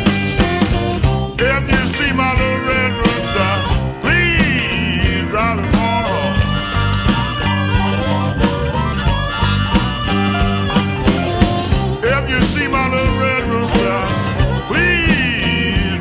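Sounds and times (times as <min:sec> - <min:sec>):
electric blues band playing: 0:00.0 - 0:16.0.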